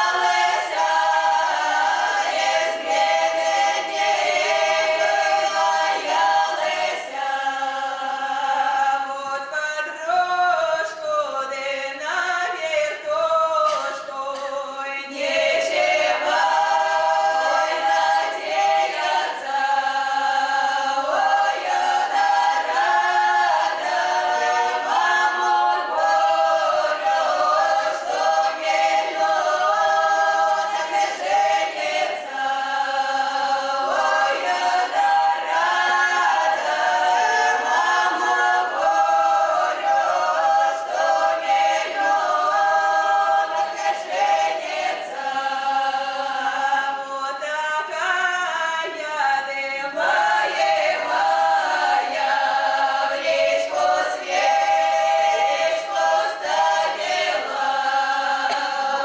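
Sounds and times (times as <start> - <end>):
women singing a cappella: 0.0 - 59.0.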